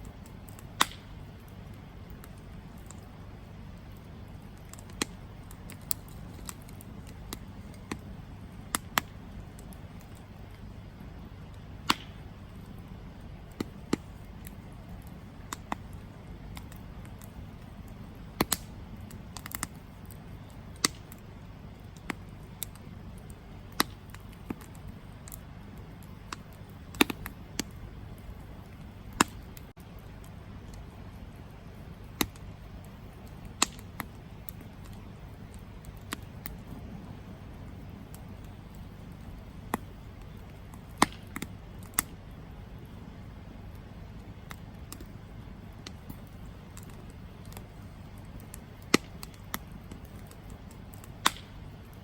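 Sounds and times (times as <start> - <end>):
burning wood crackles and pops: 0.0 - 52.0
campfire flames rushing: 0.0 - 52.0.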